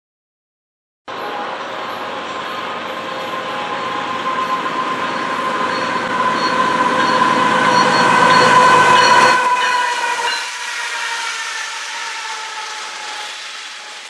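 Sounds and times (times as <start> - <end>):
freight train rumble: 1.1 - 14.0
steady high ringing tone: 1.1 - 14.0.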